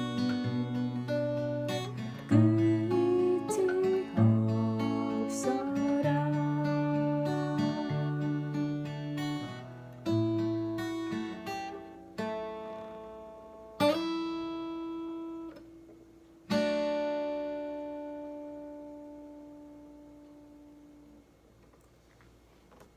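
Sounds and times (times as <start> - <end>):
acoustic guitar playing: 0.0 - 21.2.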